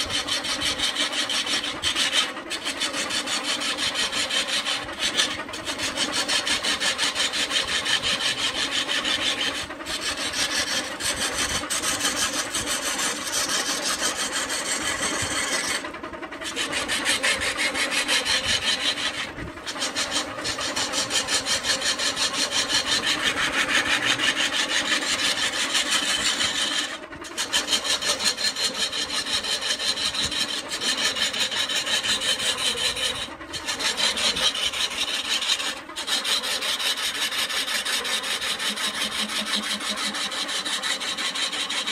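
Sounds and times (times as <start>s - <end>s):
lathe tool scraping wood: 0.0s - 41.9s.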